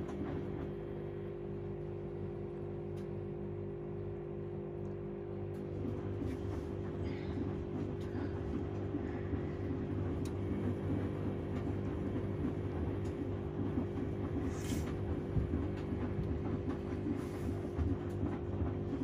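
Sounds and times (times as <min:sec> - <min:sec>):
washing machine running: 0:00.0 - 0:19.0.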